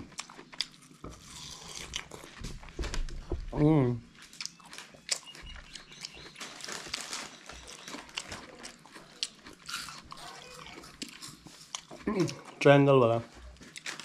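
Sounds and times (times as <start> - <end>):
chewing watermelon: 0.0 - 14.0.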